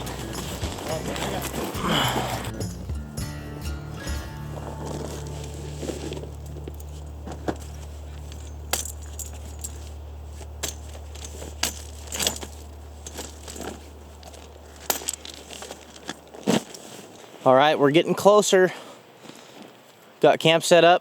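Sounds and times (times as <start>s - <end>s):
steady low hum: 0.0s - 17.3s
camp gear clinking and knocking: 0.0s - 17.4s.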